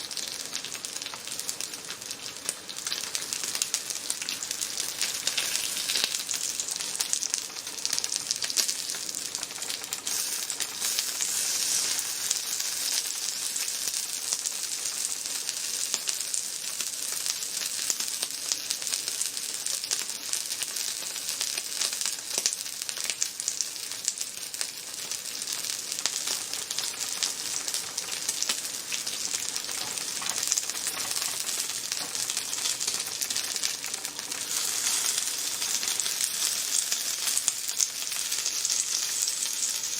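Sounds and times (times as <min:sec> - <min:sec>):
food sizzling on a grill: 0:00.0 - 0:39.9.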